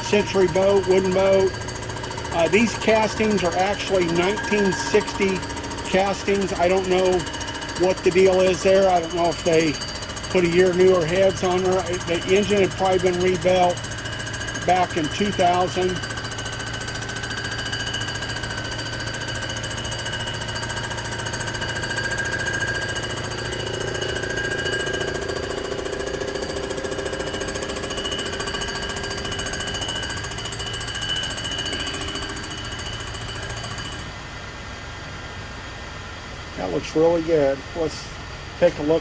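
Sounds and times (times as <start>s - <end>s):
surfacing machine running: 0.0s - 34.4s.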